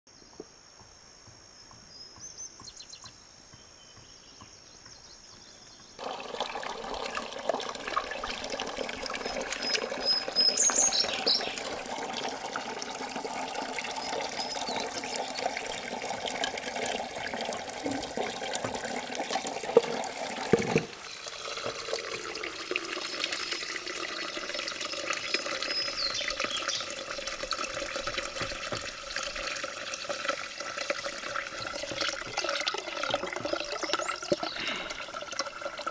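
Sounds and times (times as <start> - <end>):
water running: 6.0 - 35.9.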